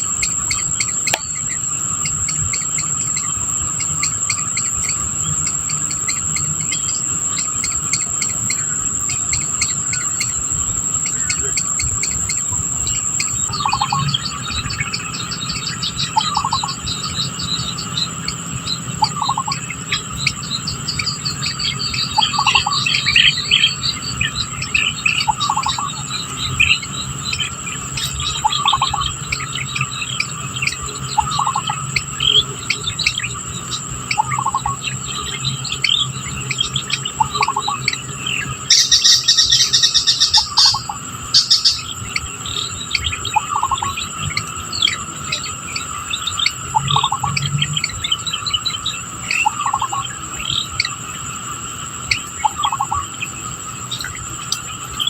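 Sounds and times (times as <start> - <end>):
bird chirps: 0.0 - 55.0
insects trilling: 0.0 - 55.0.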